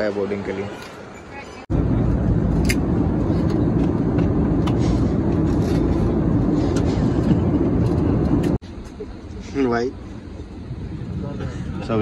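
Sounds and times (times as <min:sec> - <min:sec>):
airliner cabin engine roar: 0:01.7 - 0:12.0.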